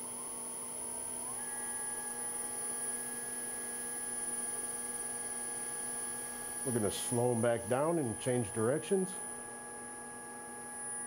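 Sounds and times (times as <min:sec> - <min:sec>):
electric motors whining and humming: 0:00.0 - 0:11.0.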